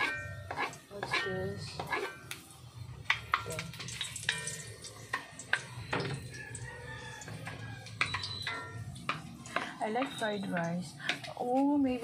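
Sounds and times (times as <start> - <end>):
wooden ladle scraping wok: 0.0 - 6.4, 7.3 - 12.0
garlic sizzling in oil: 0.0 - 12.0.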